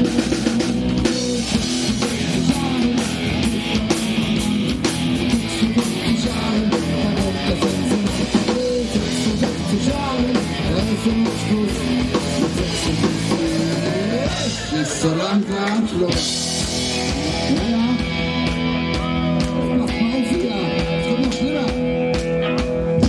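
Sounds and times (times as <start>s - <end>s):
guitar: 0.0s - 23.0s
punk rock band playing: 0.0s - 23.0s.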